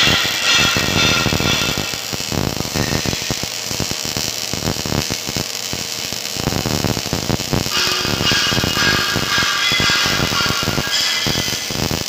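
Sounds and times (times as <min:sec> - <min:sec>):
welding arc crackle and buzz: 0:00.0 - 0:12.0.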